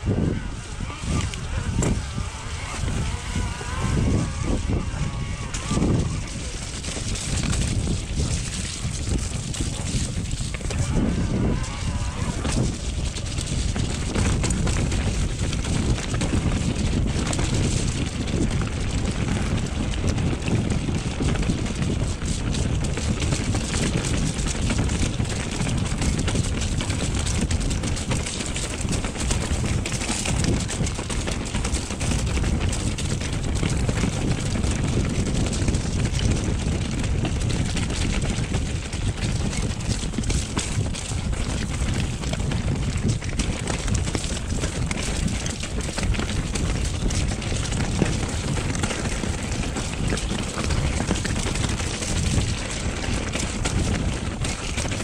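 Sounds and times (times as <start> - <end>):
mountain bike rumbling on trail: 0.0 - 55.0
wind rush on microphone: 0.0 - 55.0.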